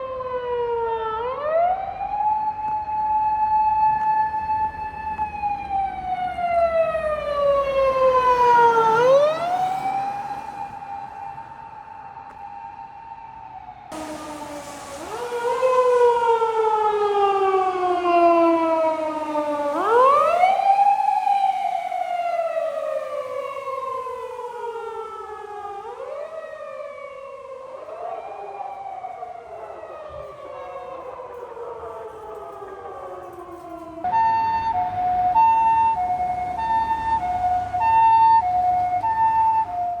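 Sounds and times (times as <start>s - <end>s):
two-tone hi-lo siren: 0.0s - 40.0s
wailing emergency sirens: 0.0s - 40.0s.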